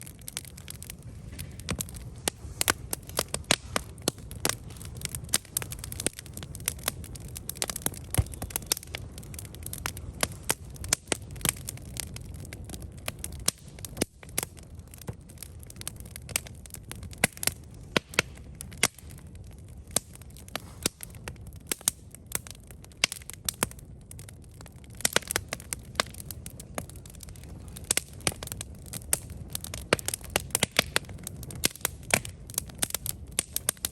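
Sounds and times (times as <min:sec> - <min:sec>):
campfire crackles and pops: 0:00.0 - 0:33.9
low rumble of flames: 0:00.0 - 0:33.9.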